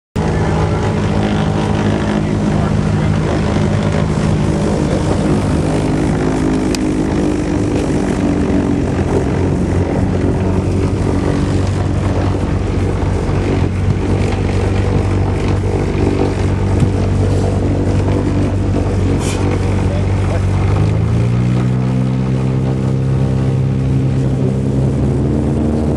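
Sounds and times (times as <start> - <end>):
propeller plane engine droning: 0.2 - 25.9.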